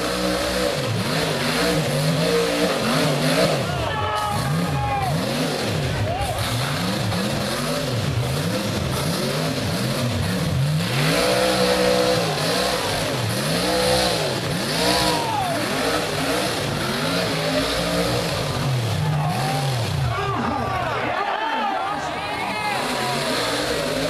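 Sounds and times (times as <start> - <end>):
buggy engine revving: 0.0 - 21.1, 21.8 - 24.0.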